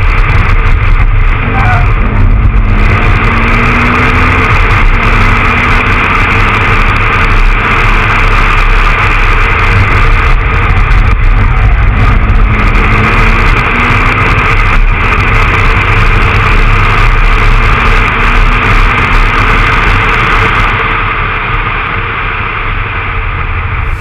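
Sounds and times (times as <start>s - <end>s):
car engine at speed: 0.0s - 24.0s
wind rumble on microphone: 0.0s - 24.0s.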